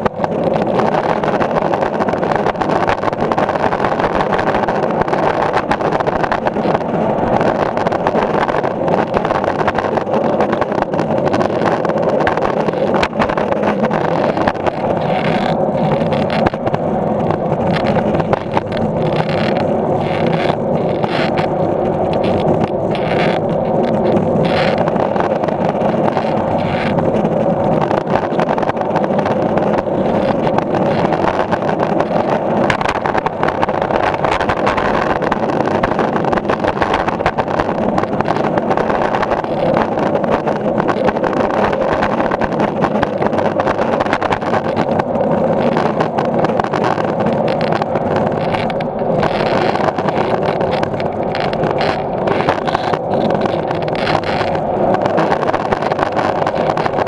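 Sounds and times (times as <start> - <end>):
skateboard wheels rolling on concrete: 0.0 - 57.0.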